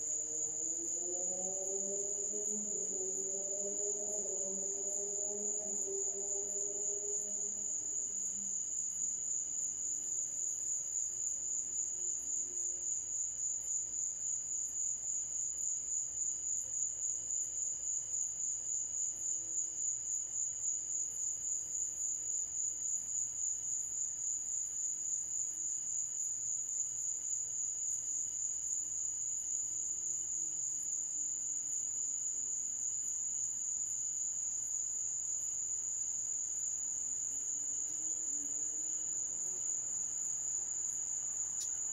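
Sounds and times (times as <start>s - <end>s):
night insects trilling: 0.0s - 41.9s.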